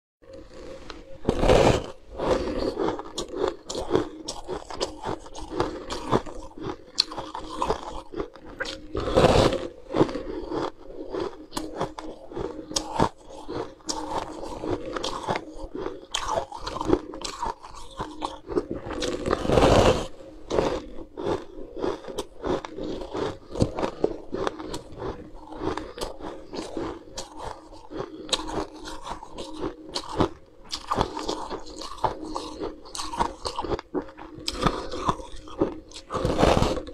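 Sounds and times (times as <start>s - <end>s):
person crunching ice: 0.4s - 36.9s.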